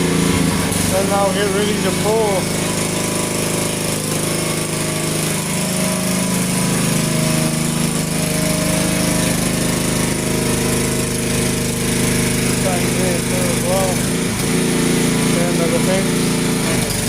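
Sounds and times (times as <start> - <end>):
machinery rattling on concrete: 0.0 - 17.0.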